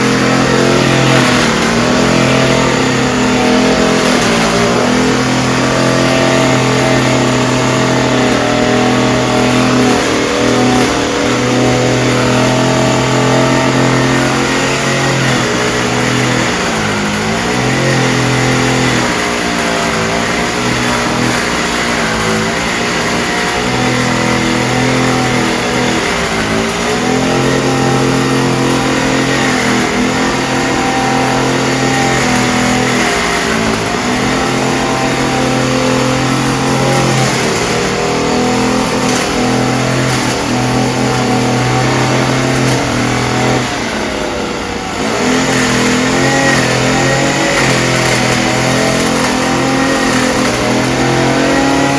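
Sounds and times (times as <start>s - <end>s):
spraying machine engine drone: 0.0s - 51.9s.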